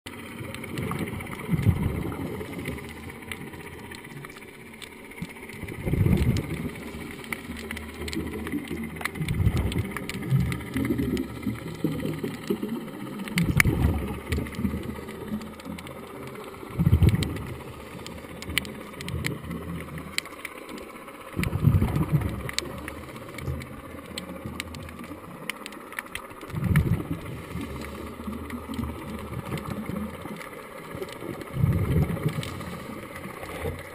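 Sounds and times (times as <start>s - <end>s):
regulator exhaust bubbles rumbling: 0.1s - 20.2s, 21.3s - 25.6s, 26.4s - 33.9s
faint clicks: 0.1s - 33.9s
steady low underwater rumble: 0.1s - 33.9s.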